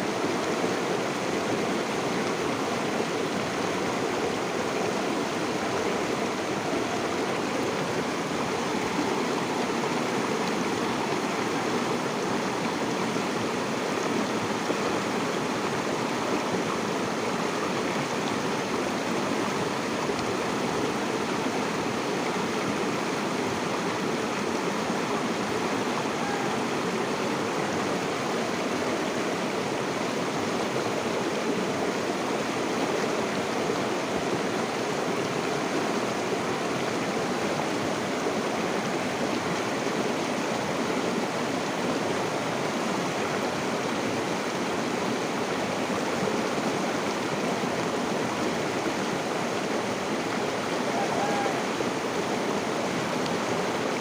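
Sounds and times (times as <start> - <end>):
stream rushing and babbling: 0.0 - 54.0.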